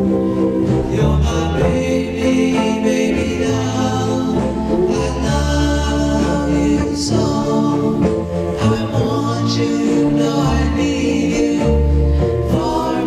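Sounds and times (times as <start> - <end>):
bass line: 0.0 - 13.0
vocal group singing close harmonies: 0.0 - 13.0.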